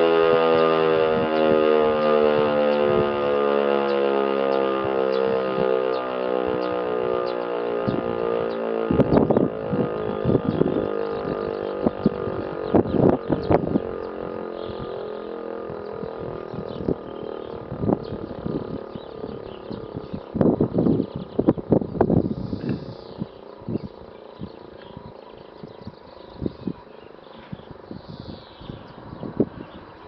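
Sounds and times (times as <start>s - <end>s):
siren winding down: 0.0s - 30.0s.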